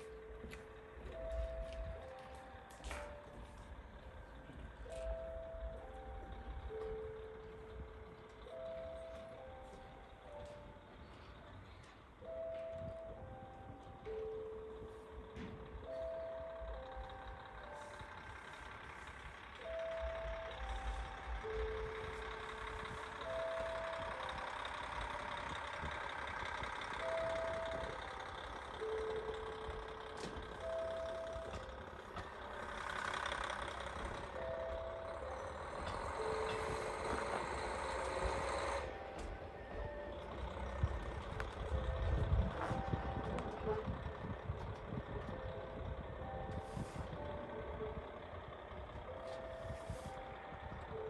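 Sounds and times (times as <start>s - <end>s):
diesel railcar running: 0.0s - 51.0s.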